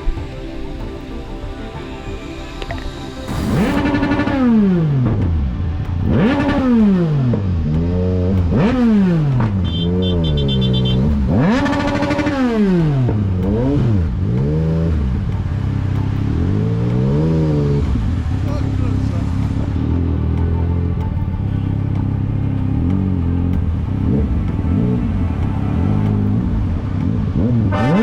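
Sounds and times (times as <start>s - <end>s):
motorcycle engine revving: 3.3s - 28.0s.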